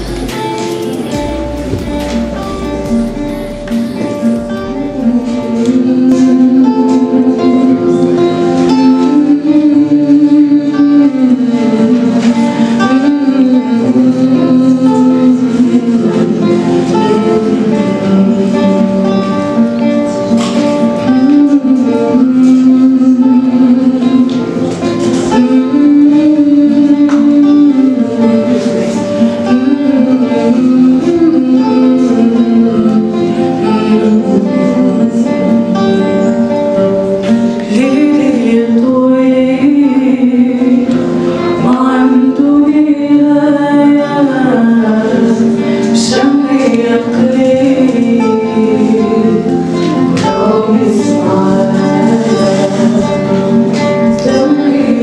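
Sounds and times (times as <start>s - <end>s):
strummed acoustic guitar: 0.0s - 55.0s
woman singing: 0.0s - 55.0s.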